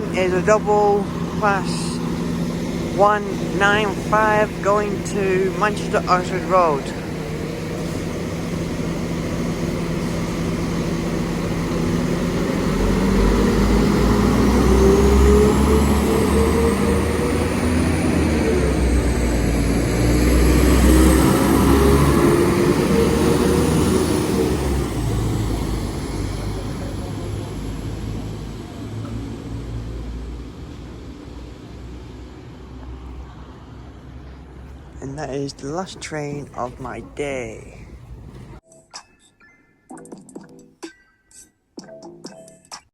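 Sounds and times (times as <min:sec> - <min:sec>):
diesel train engines under load: 0:00.0 - 0:38.6.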